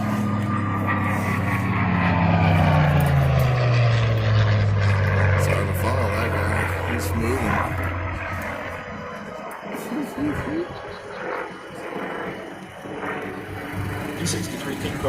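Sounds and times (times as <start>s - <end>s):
piston aircraft engine droning past: 0.0s - 15.0s.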